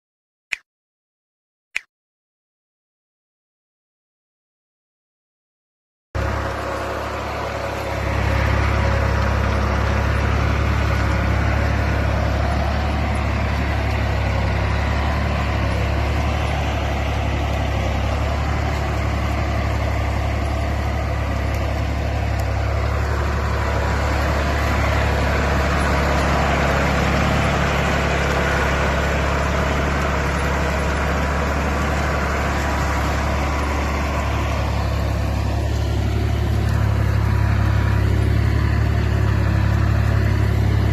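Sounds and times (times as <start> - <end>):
tractor diesel engine running: 6.2 - 40.9.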